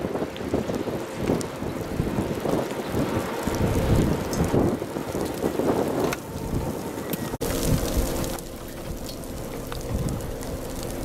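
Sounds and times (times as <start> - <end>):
rain: 0.0 - 11.0
wind buffeting microphone: 0.0 - 11.0.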